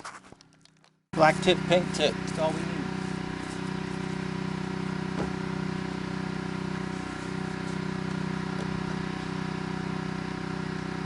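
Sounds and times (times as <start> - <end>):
pressure washer engine running: 1.2 - 11.0.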